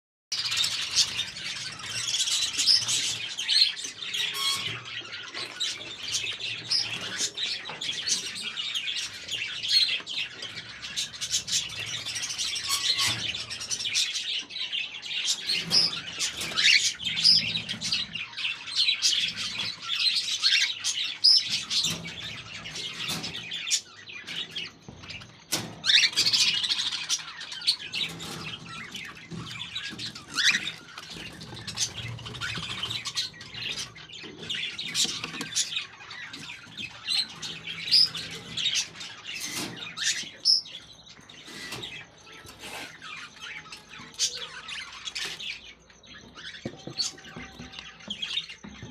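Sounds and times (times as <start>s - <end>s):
parrots chirping and squawking: 0.4s - 48.9s.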